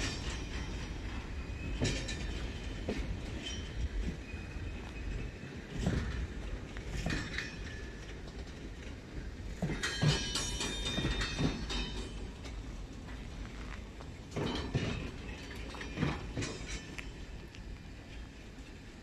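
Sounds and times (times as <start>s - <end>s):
wheels knocking over rail joints: 0.0s - 18.5s
steel wheels squealing on rails: 0.0s - 19.0s
train rumble: 0.0s - 19.0s.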